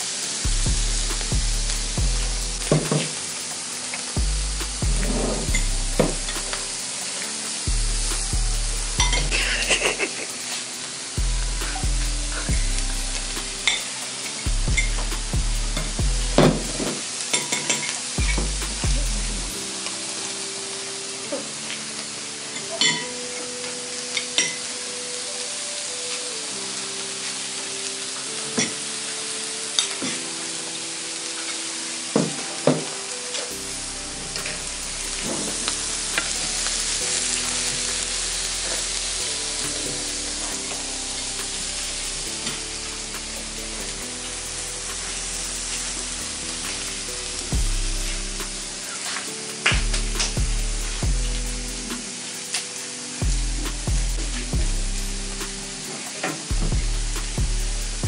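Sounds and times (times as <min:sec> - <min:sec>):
background music: 0:00.0 - 0:58.0
food sizzling in a frying pan: 0:00.0 - 0:58.0.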